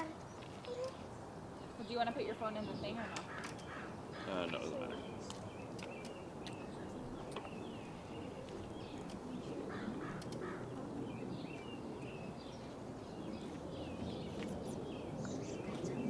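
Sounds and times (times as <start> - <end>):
birds calling and chirping: 0.0 - 16.0.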